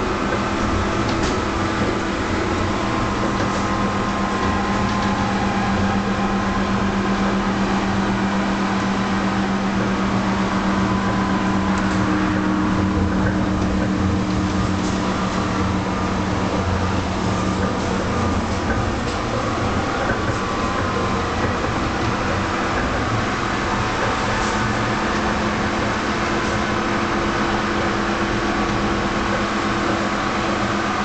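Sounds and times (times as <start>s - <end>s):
electric tram drive hum: 0.0s - 31.0s
wheels rumbling on rails: 0.0s - 31.0s.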